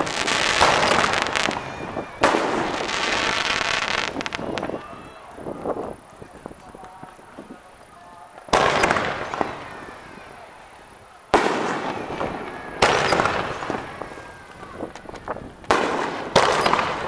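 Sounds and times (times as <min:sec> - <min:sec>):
fireworks shells bursting: 0:00.0 - 0:17.0.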